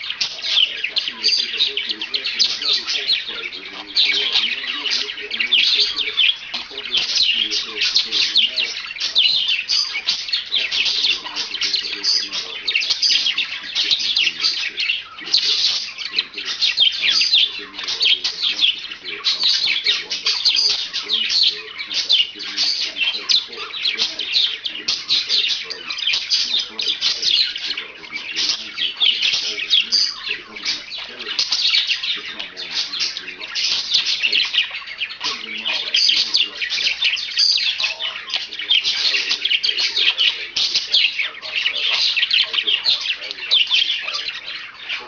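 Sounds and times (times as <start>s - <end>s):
budgerigar chirping and trilling: 0.0s - 45.0s.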